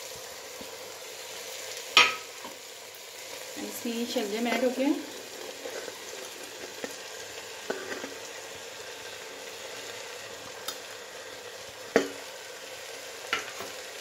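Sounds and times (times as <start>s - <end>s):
meat and vegetables sizzling in oil: 0.0s - 14.0s.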